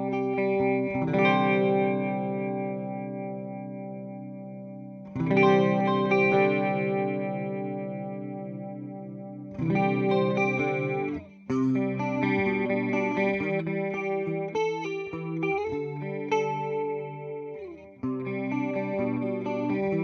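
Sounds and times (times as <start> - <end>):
electric guitar with chorus effect: 0.0 - 20.0.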